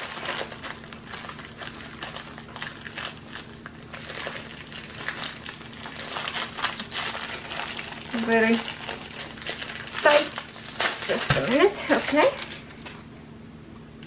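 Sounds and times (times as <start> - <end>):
plastic sleeve crinkling: 0.0 - 13.1.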